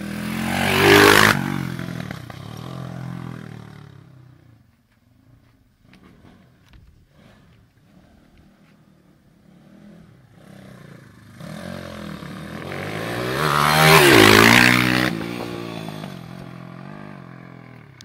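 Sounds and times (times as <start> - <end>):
pit bike engine passing by: 0.0 - 18.0.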